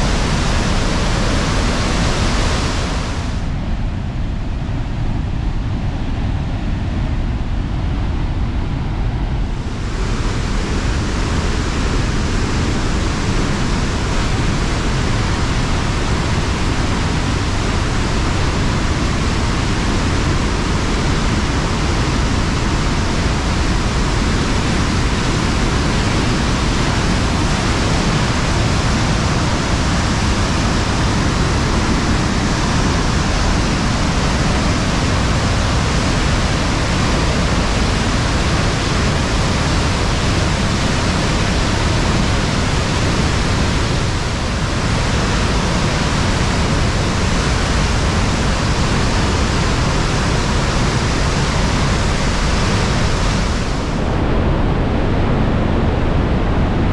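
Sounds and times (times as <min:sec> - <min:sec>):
waterfall rushing: 0:00.0 - 0:03.5, 0:09.6 - 0:54.2.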